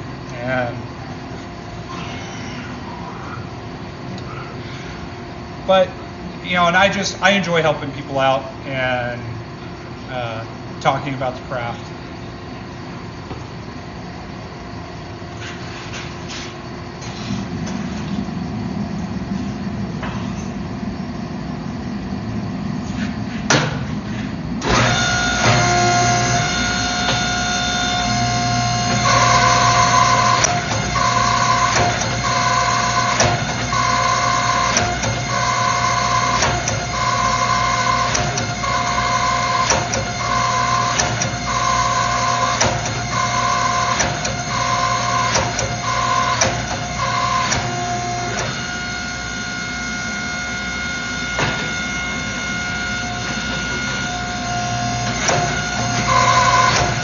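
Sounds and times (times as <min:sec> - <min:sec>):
shop machinery humming: 0:00.0 - 0:57.0.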